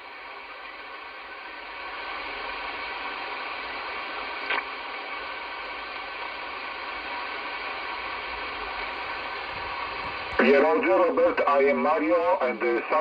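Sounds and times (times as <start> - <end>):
radio crackle: 0.0 - 13.0
radio static hiss: 0.0 - 13.0.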